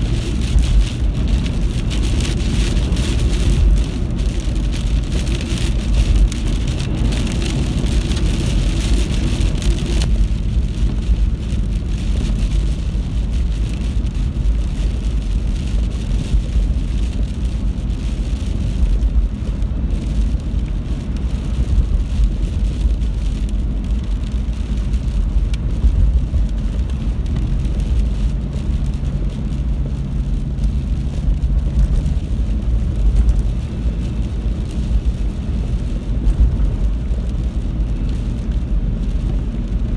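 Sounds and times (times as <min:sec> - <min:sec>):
deep rumble: 0:00.0 - 0:39.9.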